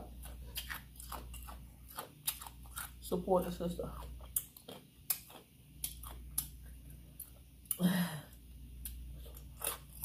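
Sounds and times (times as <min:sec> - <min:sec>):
person chewing food: 0:00.0 - 0:03.0, 0:03.8 - 0:10.0.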